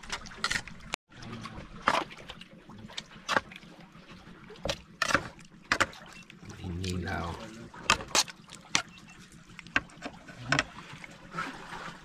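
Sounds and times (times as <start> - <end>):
faint lapping water: 0.0 - 12.0.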